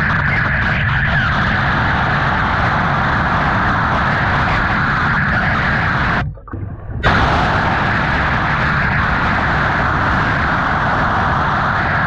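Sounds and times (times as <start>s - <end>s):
underwater cleaning jet rushing: 0.1s - 12.0s.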